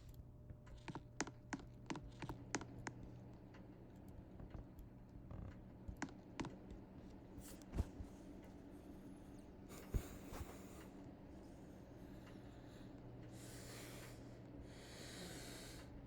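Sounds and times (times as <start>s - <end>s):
ceiling fan motors humming: 0.0s - 16.0s.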